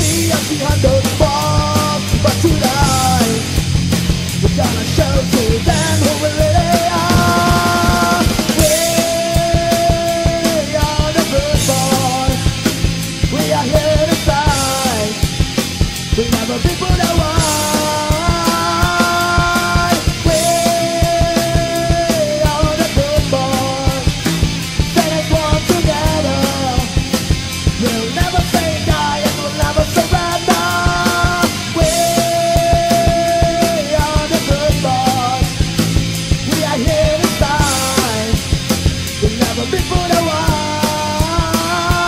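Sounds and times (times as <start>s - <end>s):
electric guitars: 0.0s - 42.0s
fast drumbeat: 0.0s - 42.0s
punk rock song: 0.0s - 42.0s.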